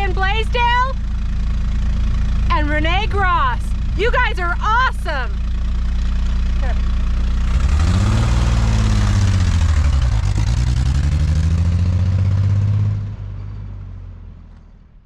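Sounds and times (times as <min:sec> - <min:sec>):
boat engine running: 0:00.0 - 0:12.8.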